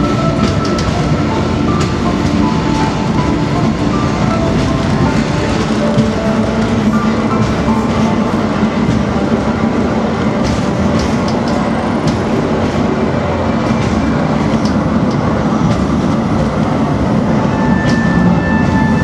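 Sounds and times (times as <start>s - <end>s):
rail clicks and rattles: 0.0s - 19.0s
train engine and wheels rumbling: 0.0s - 19.0s.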